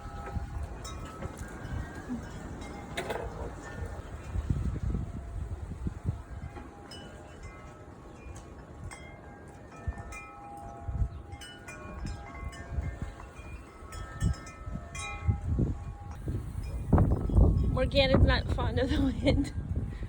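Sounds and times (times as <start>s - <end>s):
wind chimes ringing: 0.0s - 20.0s
wind rumbling on microphone: 0.0s - 20.0s.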